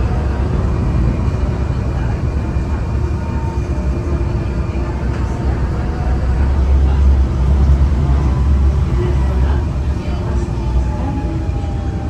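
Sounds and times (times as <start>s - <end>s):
tram rumbling: 0.0s - 12.0s.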